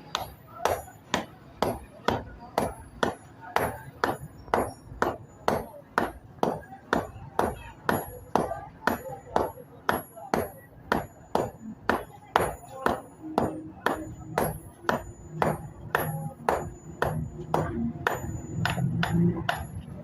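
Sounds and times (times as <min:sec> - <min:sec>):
hammer striking iron on anvil: 0:00.0 - 0:20.0.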